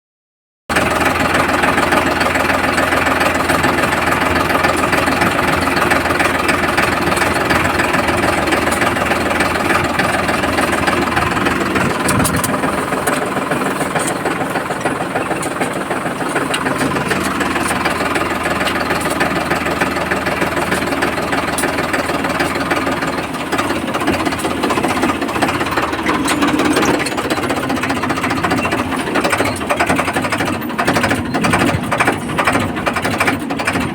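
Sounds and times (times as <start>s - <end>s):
tractor diesel engine running: 0.7s - 33.9s.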